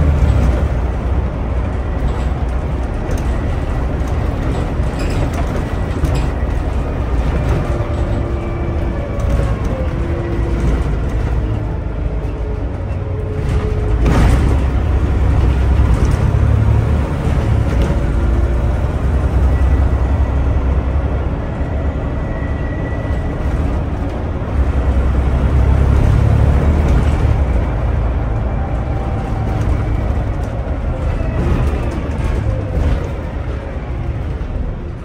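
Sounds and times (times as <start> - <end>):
bus engine drone: 0.0 - 35.0
road noise: 0.0 - 35.0.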